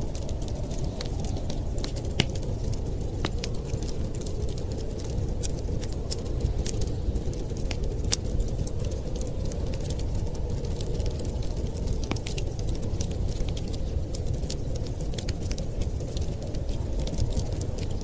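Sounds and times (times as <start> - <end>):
blizzard wind rumbling: 0.0 - 18.0
wood fire crackling: 0.0 - 18.0.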